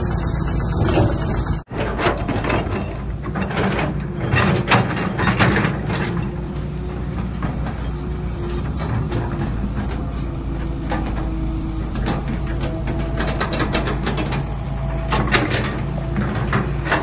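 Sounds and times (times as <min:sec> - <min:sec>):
excavator diesel engine humming: 0:00.0 - 0:17.0
metal parts clanking and scraping: 0:00.5 - 0:17.0.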